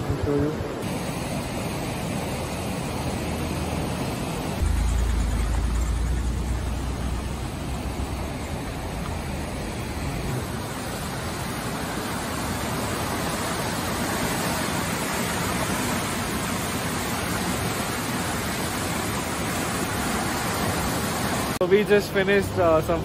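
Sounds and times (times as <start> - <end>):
river rushing over rocks: 0.6 - 23.0.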